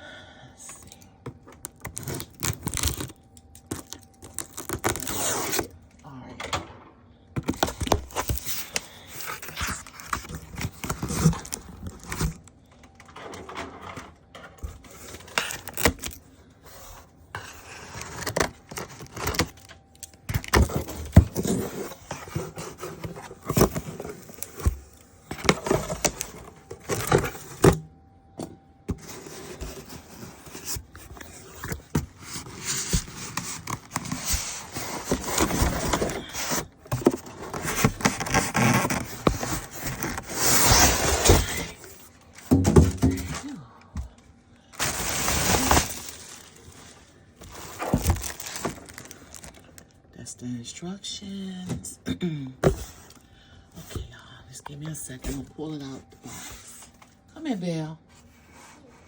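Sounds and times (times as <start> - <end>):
cardboard and plastic rustling: 1.2 - 5.8, 7.4 - 50.6, 52.6 - 59.0.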